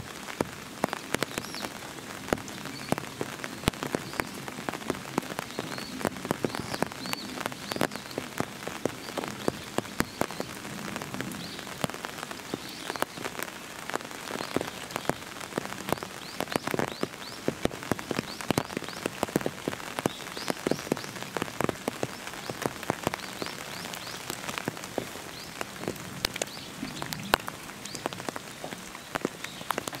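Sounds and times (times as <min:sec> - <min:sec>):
raindrops tapping close by: 0:00.0 - 0:30.0
steady rain: 0:00.0 - 0:30.0.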